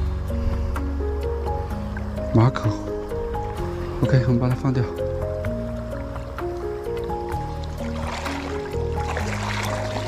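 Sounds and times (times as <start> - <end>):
background music with held notes: 0.0 - 10.0
faint running water: 1.4 - 10.0.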